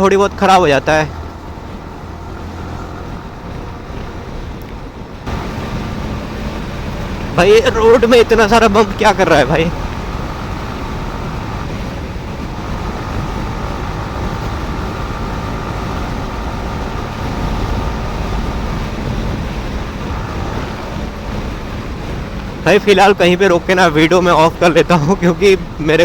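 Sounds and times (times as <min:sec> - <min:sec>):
motorcycle engine cruising: 0:00.0 - 0:26.0
wind noise on microphone: 0:00.9 - 0:26.0.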